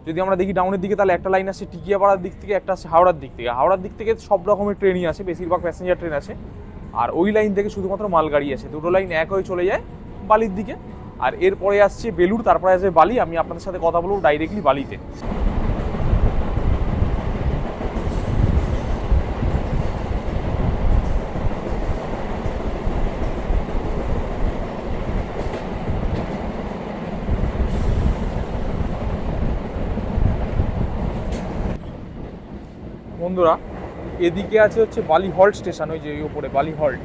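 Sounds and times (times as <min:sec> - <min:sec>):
passing train: 0:00.0 - 0:37.0
train wheels rumbling on rail: 0:00.0 - 0:37.0.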